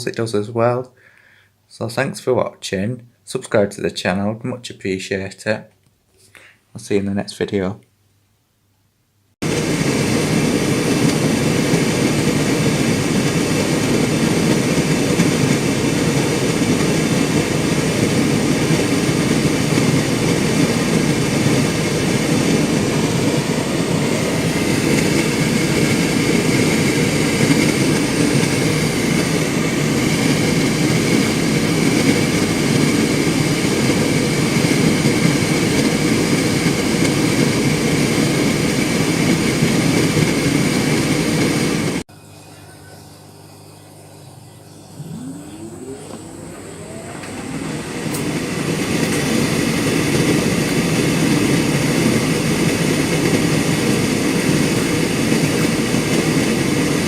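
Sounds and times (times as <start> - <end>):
tumble dryer droning: 9.4 - 57.0.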